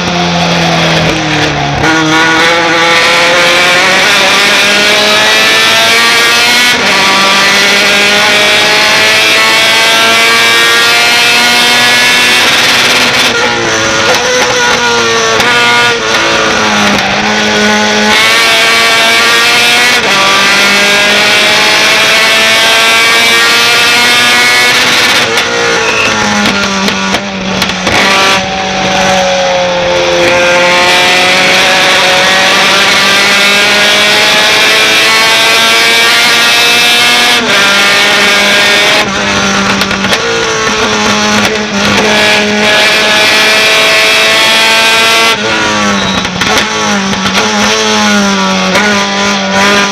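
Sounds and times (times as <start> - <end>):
racing truck engine revving: 0.0 - 49.9.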